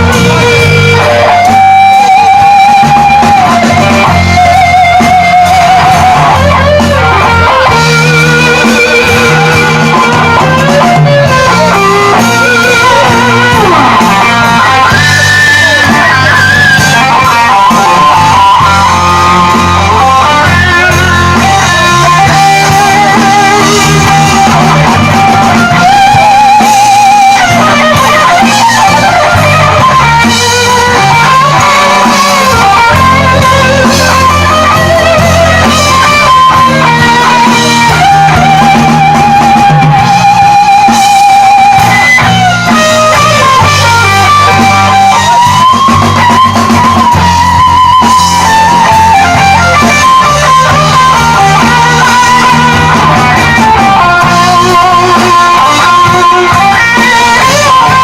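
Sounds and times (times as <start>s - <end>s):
electric guitar lead line: 0.0s - 58.0s
rock band playing: 0.0s - 58.0s.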